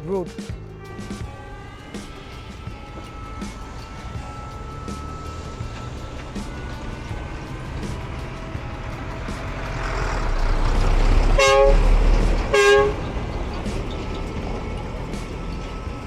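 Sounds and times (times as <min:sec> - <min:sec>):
short horn toots: 0:00.9 - 0:14.3
vehicle passing close: 0:00.9 - 0:16.0.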